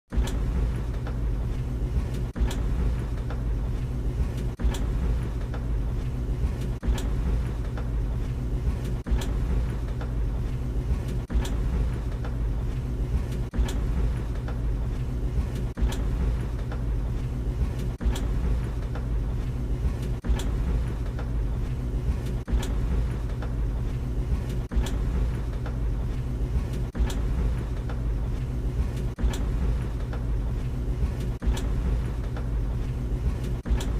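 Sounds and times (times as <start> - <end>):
dryer drum knocking: 0.1 - 33.9
tumble dryer humming: 0.1 - 33.9.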